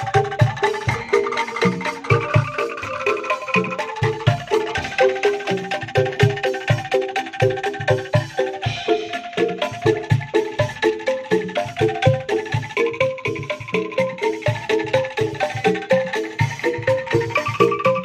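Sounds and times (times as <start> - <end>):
instrumental music with beat: 0.0 - 18.0.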